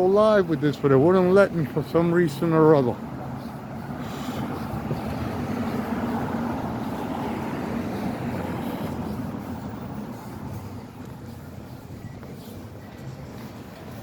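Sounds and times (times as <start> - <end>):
vehicle passing: 0.5 - 14.0.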